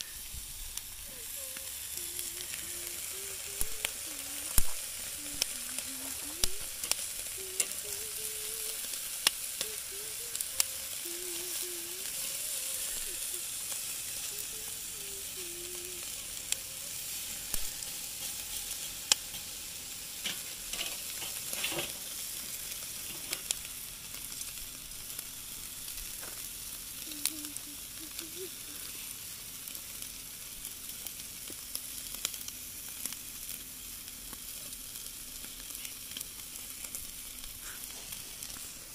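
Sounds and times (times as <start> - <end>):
fat popping and crackling: 0.0 - 38.9
food sizzling on a grill: 0.0 - 38.9.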